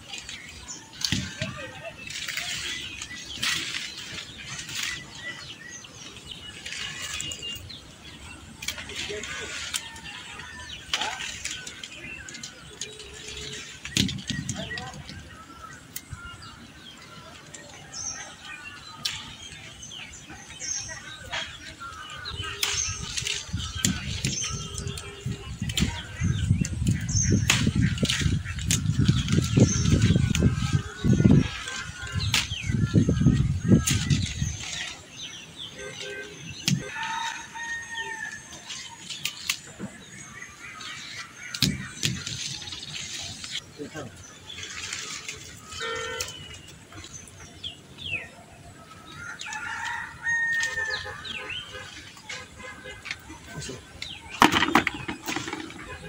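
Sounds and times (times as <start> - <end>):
birds chirping: 0.0 - 56.0
leaves and branches rustling: 0.0 - 56.0.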